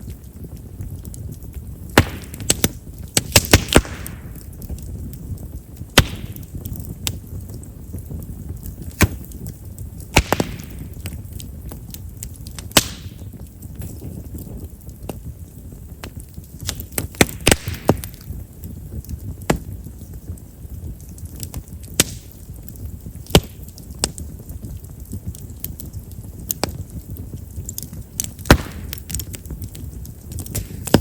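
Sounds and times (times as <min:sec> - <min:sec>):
campfire crackling and popping: 0:00.0 - 0:31.0
low rumble of flames: 0:00.0 - 0:31.0.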